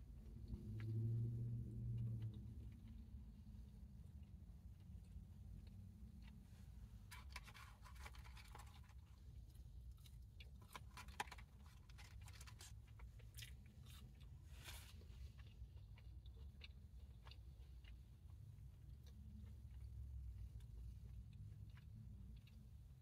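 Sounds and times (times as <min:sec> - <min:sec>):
person chewing food: 0:01.9 - 0:23.0.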